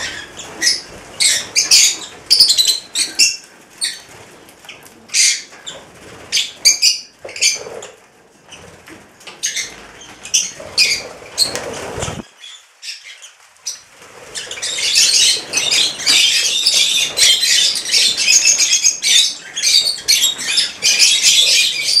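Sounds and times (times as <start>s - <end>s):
lovebirds chattering: 0.0s - 8.6s, 9.4s - 22.0s
wings fluttering: 0.0s - 12.3s, 13.2s - 22.0s.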